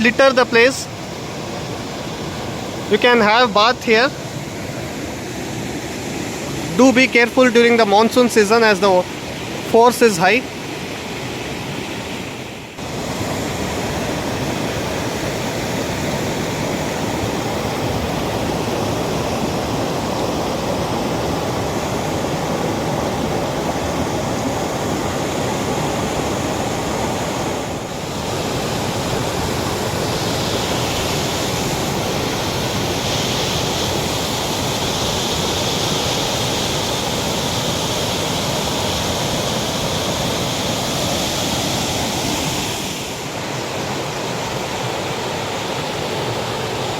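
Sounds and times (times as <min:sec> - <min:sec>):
waterfall rushing over rocks: 0:00.0 - 0:46.9.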